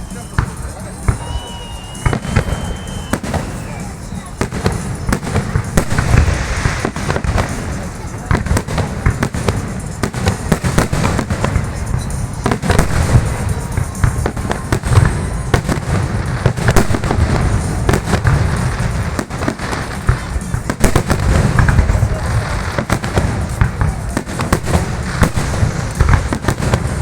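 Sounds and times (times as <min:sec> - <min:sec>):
fireworks bursting and crackling: 0:00.0 - 0:27.0
music playing: 0:00.0 - 0:27.0.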